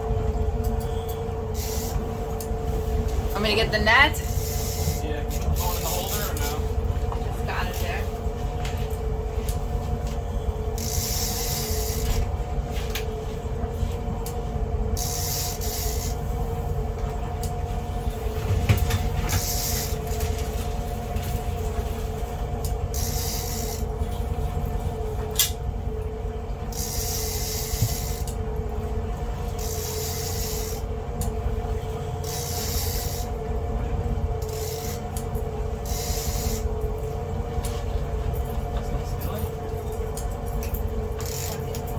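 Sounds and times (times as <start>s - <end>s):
boat engine running steadily: 0.0s - 41.9s.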